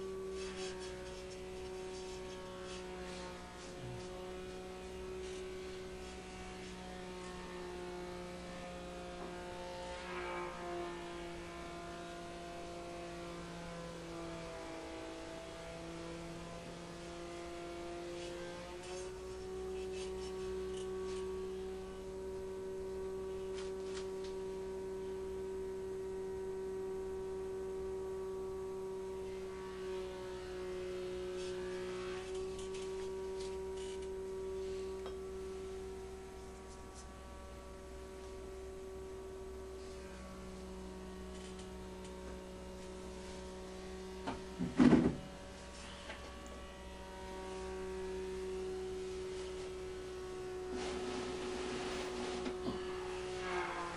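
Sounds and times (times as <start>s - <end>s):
steady mechanical hum: 0.0s - 53.9s.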